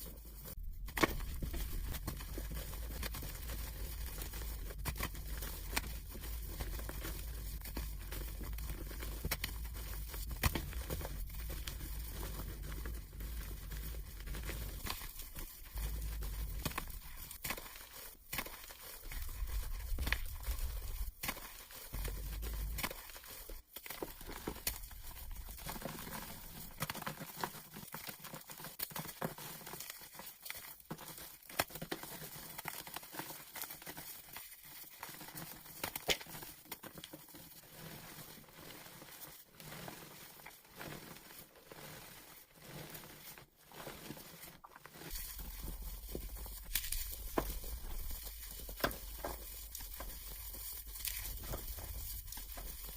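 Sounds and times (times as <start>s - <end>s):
chalk crushing and crunching: 0.0s - 52.9s.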